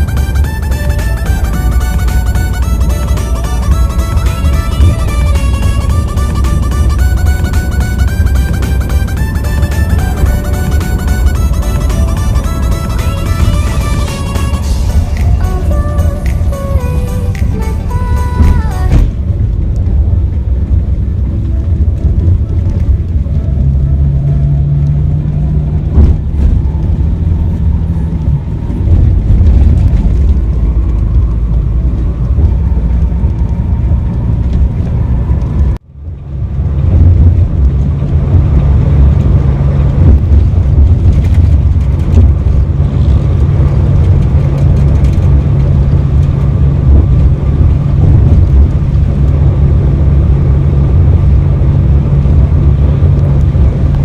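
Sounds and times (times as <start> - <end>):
bus engine droning: 0.0 - 54.0
road noise: 0.0 - 54.0.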